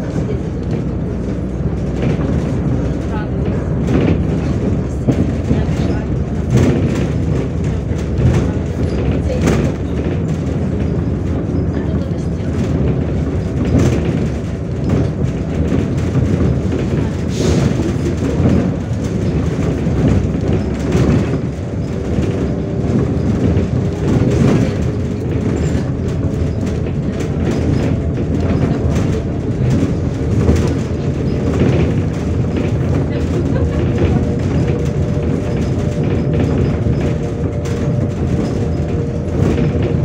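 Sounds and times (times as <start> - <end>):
body knocks and rattles: 0.0 - 40.0
bus engine drone: 0.0 - 40.0
road rumble: 0.0 - 40.0.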